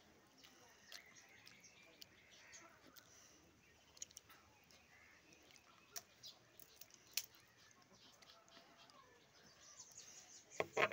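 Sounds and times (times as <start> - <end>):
faint bird chirps: 0.0 - 10.9.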